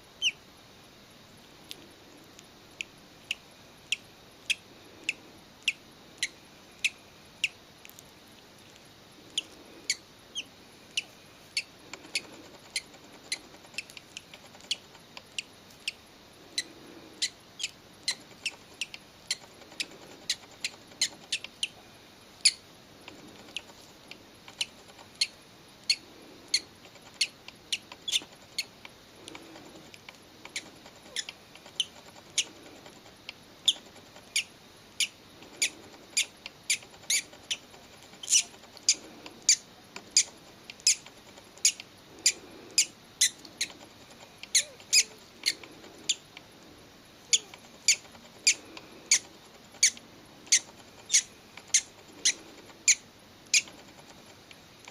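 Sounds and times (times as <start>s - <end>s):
parrot chick peeping: 0.2s - 0.5s, 1.7s - 46.6s, 47.2s - 54.9s.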